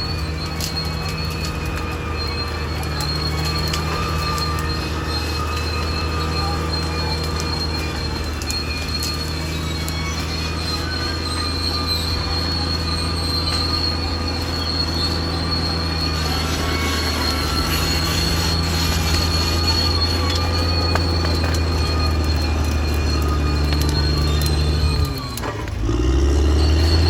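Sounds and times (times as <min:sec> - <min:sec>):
bulldozer diesel engine: 0:00.0 - 0:27.0
metallic squeal of steel tracks: 0:00.0 - 0:27.0.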